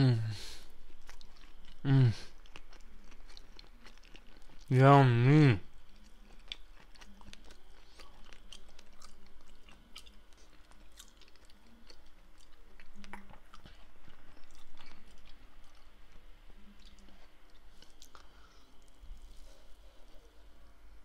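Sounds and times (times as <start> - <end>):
person chewing with wet smacks: 0.7 - 4.7, 5.7 - 20.7.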